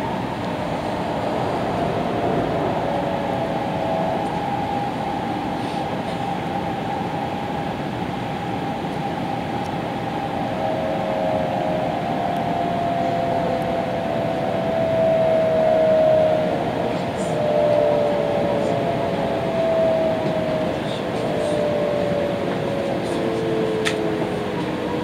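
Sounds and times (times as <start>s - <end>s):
train cabin rumble: 0.0s - 7.5s, 10.6s - 25.0s
traction motor whine: 0.0s - 25.0s.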